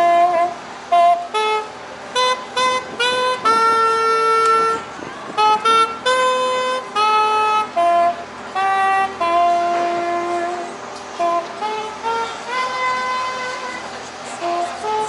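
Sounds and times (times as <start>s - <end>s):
wind instrument tune: 0.0s - 15.0s.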